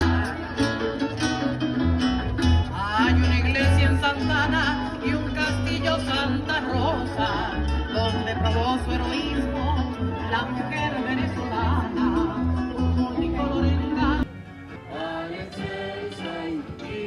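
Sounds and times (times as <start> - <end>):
repeating bass line: 0.0 - 14.3
guitar accompaniment: 0.0 - 17.0
person singing a hymn: 2.7 - 17.0.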